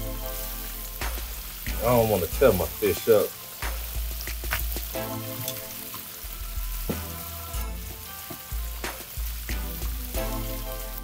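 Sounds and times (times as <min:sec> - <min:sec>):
hot oil sizzling and bubbling: 0:00.0 - 0:11.0.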